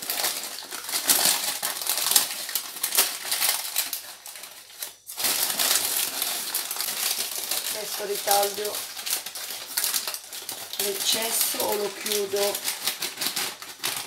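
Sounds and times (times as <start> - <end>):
baking parchment crinkling: 0.0 - 14.0.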